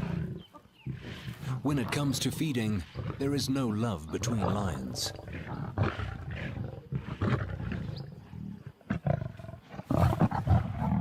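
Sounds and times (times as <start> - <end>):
lions snarling: 0.0 - 11.0.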